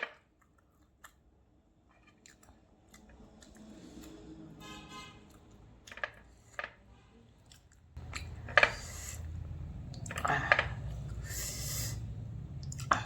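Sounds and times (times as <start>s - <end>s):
chewing and crunching food: 0.2s - 6.7s, 7.3s - 13.0s.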